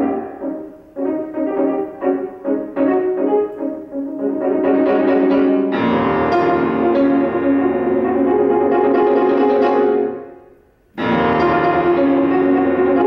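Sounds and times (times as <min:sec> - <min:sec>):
solo grand piano: 0:00.0 - 0:13.0.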